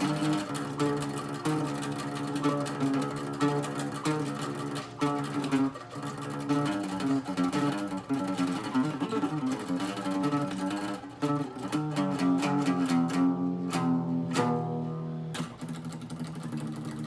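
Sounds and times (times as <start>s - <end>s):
acoustic guitar metal riffs: 0.0s - 17.0s.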